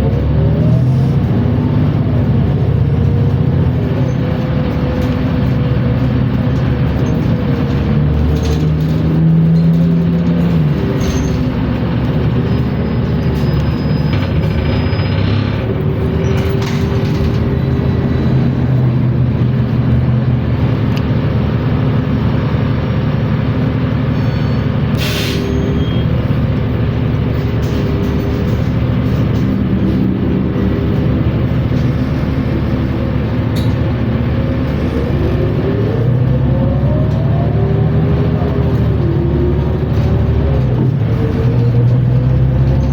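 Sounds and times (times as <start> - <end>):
bus engine drone: 0.0 - 42.9.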